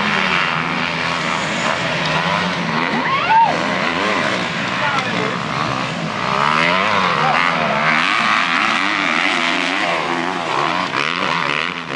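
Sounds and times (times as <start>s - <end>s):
dirt bike engines revving: 0.0s - 11.9s.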